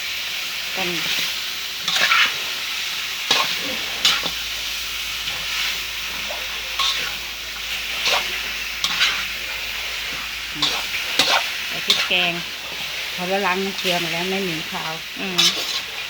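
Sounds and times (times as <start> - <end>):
paste sizzling in hot pan: 0.0 - 16.0
spatula scraping pan: 1.8 - 16.0.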